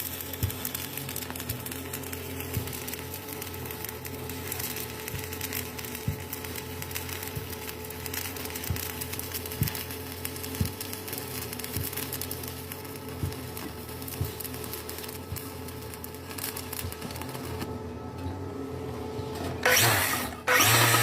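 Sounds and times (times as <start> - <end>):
welding arc pops: 0.0 - 17.7, 19.6 - 21.0
welding arc crackling sizzle: 0.0 - 17.9, 19.3 - 21.0
steady low hum: 0.0 - 21.0.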